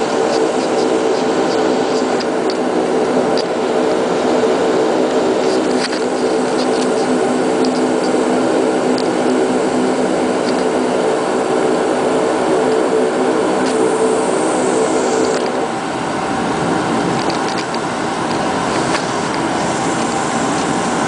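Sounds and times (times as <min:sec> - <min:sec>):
turboprop engines droning: 0:00.0 - 0:21.0.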